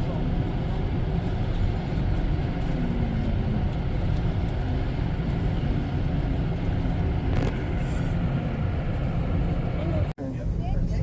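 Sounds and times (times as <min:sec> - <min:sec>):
train rumble inside railcar: 0:00.0 - 0:11.0.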